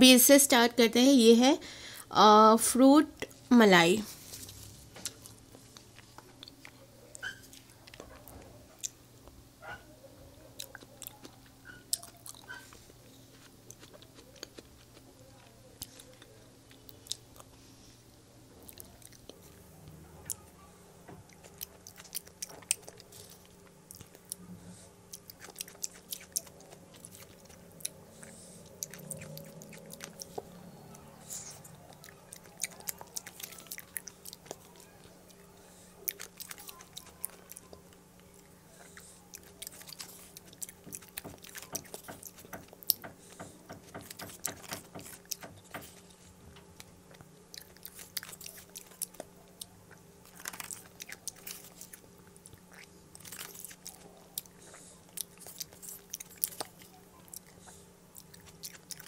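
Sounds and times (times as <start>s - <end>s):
faint low hum: 0.0s - 59.0s
person chewing food: 4.1s - 9.8s, 10.5s - 20.4s, 21.1s - 59.0s.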